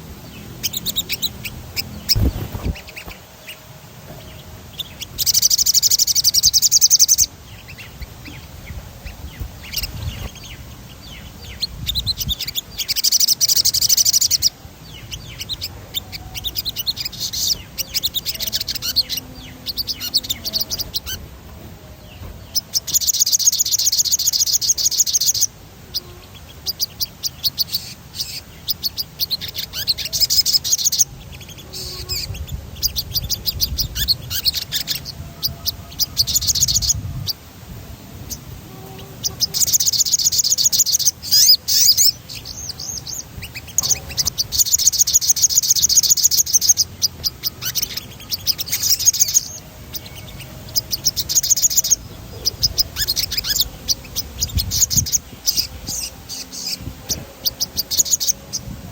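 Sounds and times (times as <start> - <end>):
sunbird singing high trills: 0.0 - 58.9.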